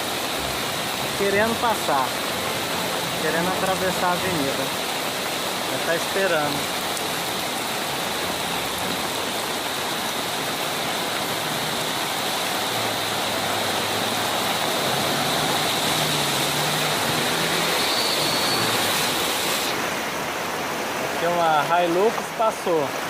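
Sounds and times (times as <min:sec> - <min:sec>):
floodwater rushing: 0:00.0 - 0:23.0
heavy rain falling: 0:00.0 - 0:23.0.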